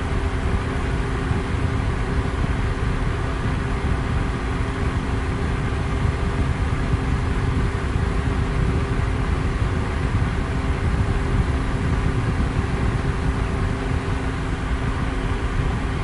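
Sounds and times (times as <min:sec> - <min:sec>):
electric fan rushing hiss: 0:00.0 - 0:16.0
faint motor hum: 0:00.0 - 0:16.0.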